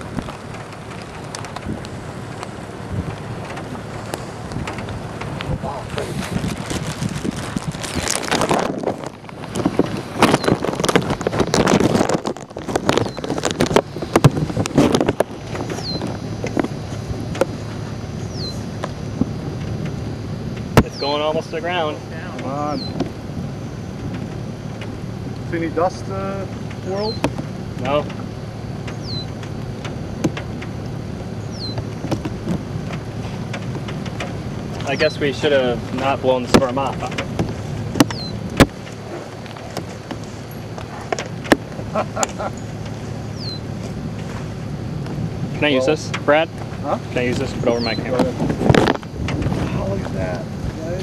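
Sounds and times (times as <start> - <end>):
gusty wind on microphone: 0.0 - 25.5, 26.6 - 51.0
low hum: 0.0 - 51.0.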